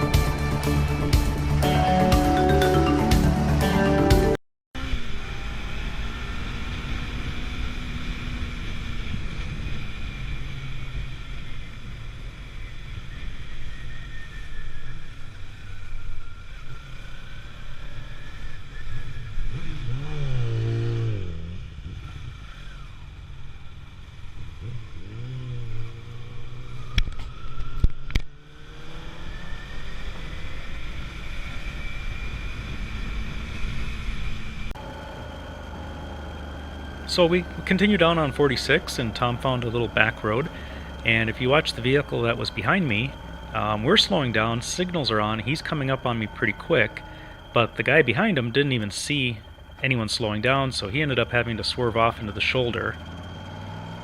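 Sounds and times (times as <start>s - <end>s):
wind and road noise: 0.0s - 1.7s, 4.8s - 54.0s
motorcycle engine running: 0.0s - 54.0s.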